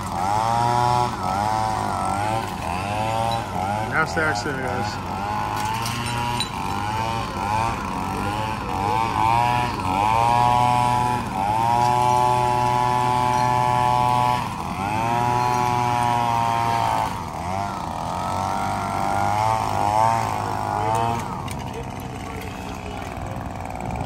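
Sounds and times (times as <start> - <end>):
leaf blower revving: 0.0 - 24.0.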